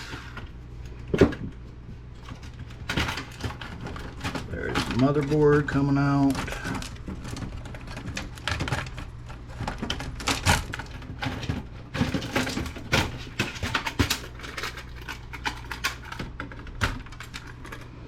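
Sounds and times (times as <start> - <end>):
low steady hum: 0.0 - 18.0
computer parts clicking and rattling: 1.1 - 18.0.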